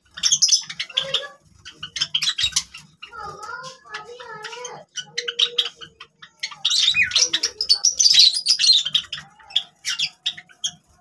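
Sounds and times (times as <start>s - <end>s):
sparrows chirping: 0.0s - 11.0s.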